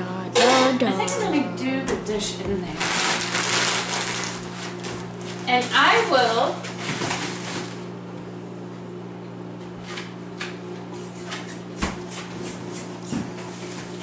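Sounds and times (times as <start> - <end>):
refrigerator hum: 0.0 - 14.0.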